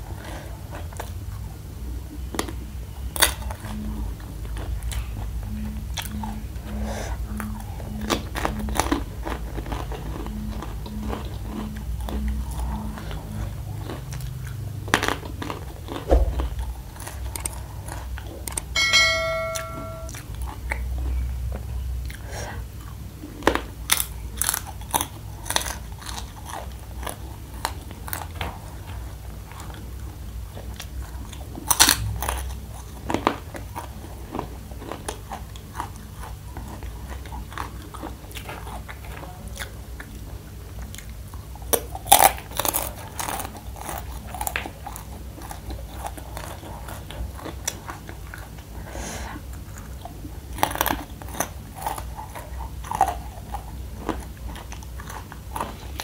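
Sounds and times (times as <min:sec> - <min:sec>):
faint low hum: 0:00.0 - 0:56.0
close chewing crunchy snack: 0:02.3 - 0:18.8, 0:20.2 - 0:56.0.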